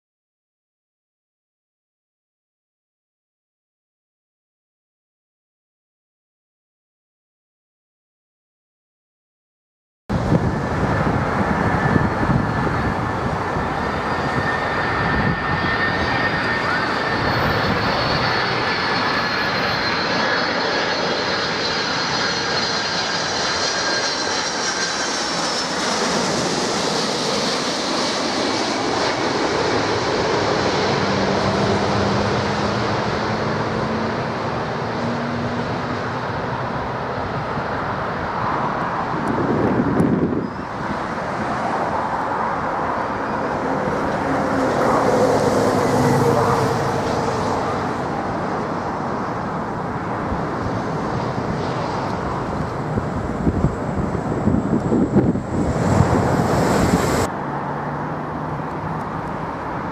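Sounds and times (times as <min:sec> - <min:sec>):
jet airliner engines on approach: 0:10.1 - 0:59.9.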